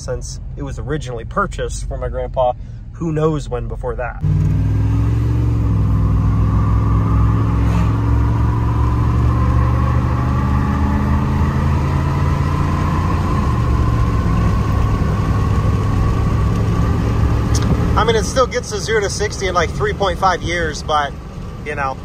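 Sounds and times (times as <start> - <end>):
truck engine accelerating: 0.0 - 22.0.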